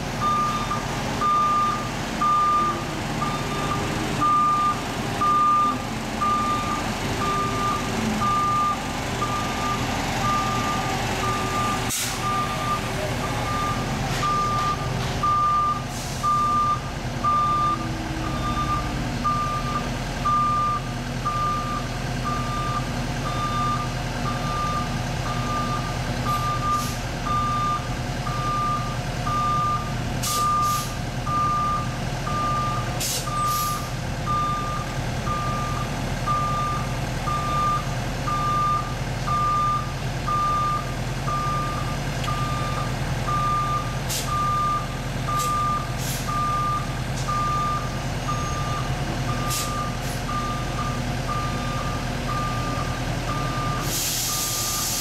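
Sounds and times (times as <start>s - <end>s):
diesel engines droning: 0.0s - 55.0s
backup alarm beeping: 0.2s - 12.8s, 13.5s - 33.6s, 34.3s - 54.9s.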